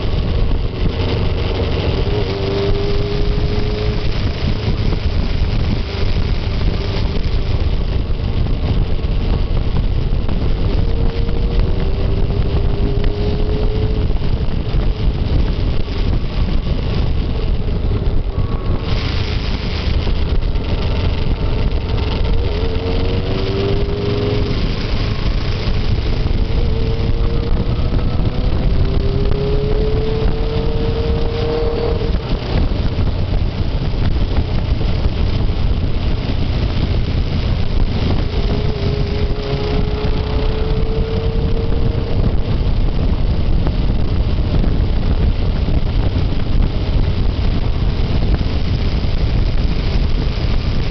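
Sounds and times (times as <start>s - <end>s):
low rumble of wind: 0.0s - 50.9s
motorcycle engine revving: 0.0s - 50.9s.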